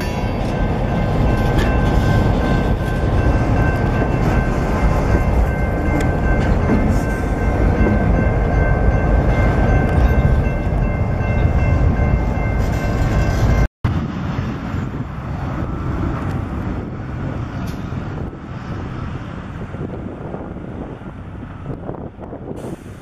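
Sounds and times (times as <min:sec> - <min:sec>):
distant locomotive rumble: 0:00.0 - 0:23.0
train wheels rumbling on rail: 0:00.0 - 0:23.0.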